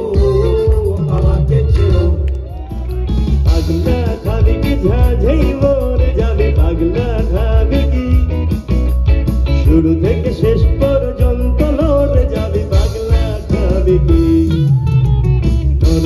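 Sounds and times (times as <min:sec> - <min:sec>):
live band playing loudly: 0:00.0 - 0:16.0.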